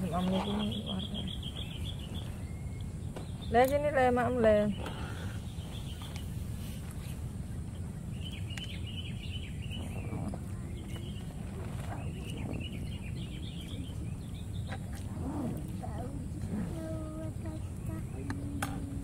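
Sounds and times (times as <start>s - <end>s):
birds twittering: 0.0s - 19.0s.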